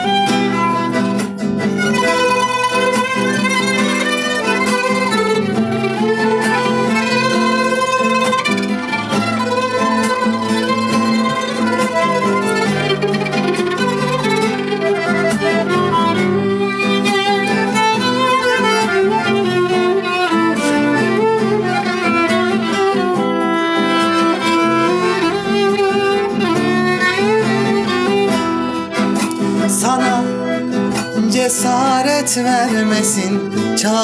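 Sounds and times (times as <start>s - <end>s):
guitar accompaniment: 0.0s - 34.0s
solo violin melody: 0.0s - 34.0s.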